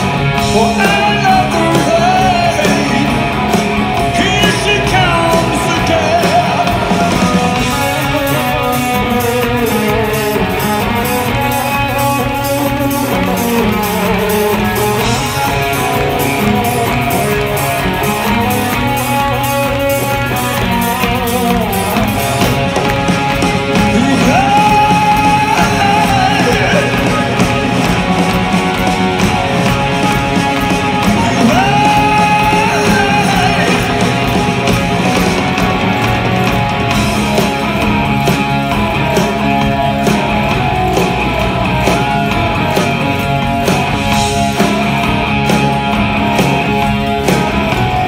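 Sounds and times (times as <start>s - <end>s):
bass guitar: 0.0s - 48.0s
distorted electric guitar: 0.0s - 48.0s
drum beat with cymbals: 0.0s - 48.0s.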